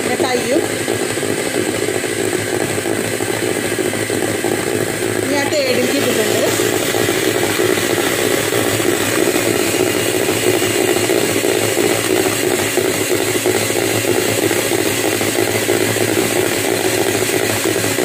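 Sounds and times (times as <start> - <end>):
electric hand mixer whipping cream: 0.0 - 18.0.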